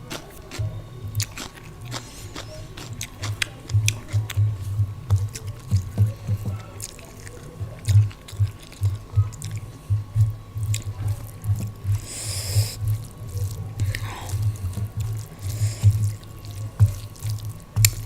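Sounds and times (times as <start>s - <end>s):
chewing rice: 0.0s - 18.0s.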